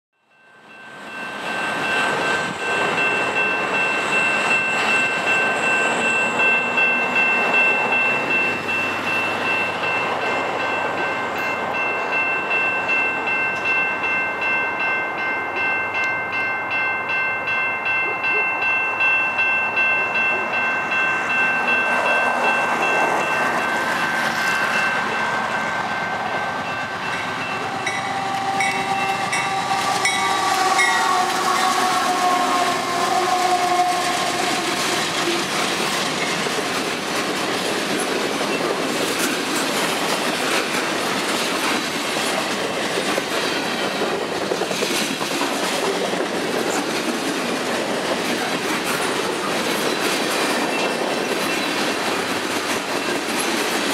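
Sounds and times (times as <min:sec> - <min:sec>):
level-crossing warning bell: 0:00.2 - 0:53.9
locomotive engine and wheel noise: 0:00.8 - 0:53.9.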